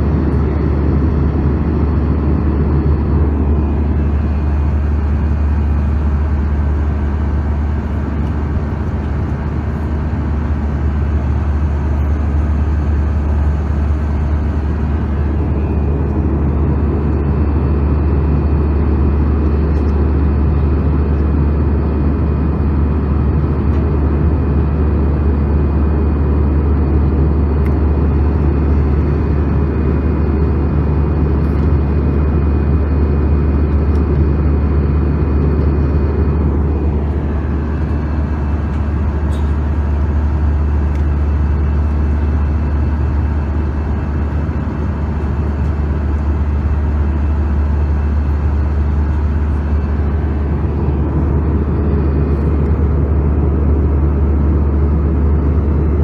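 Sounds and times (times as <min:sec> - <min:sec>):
aircraft engine and airflow rumble: 0:00.0 - 0:56.0.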